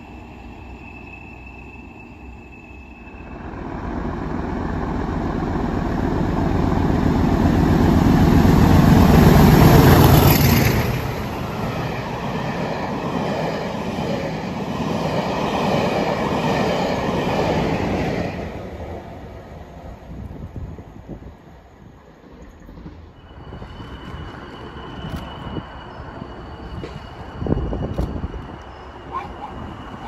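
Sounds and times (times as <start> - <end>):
passenger train passing: 0.0 - 30.0.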